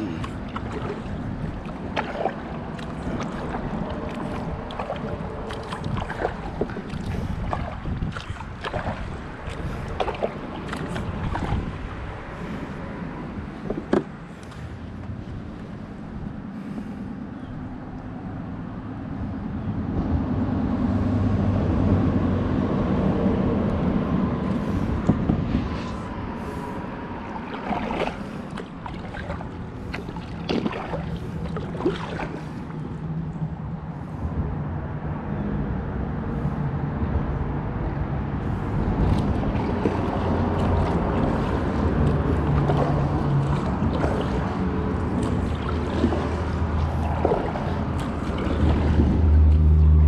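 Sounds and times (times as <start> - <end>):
road traffic rumble: 0.0 - 50.0.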